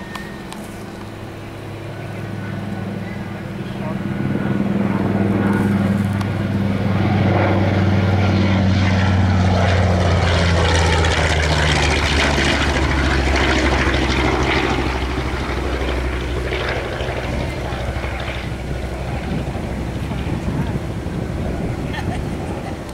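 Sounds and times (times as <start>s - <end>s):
propeller plane flyby drone: 0.0s - 22.9s.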